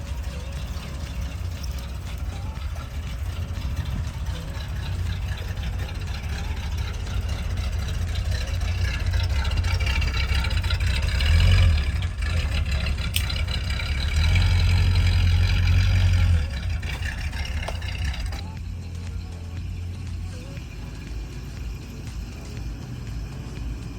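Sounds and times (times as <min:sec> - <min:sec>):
pickup truck engine revving: 0:00.0 - 0:23.9.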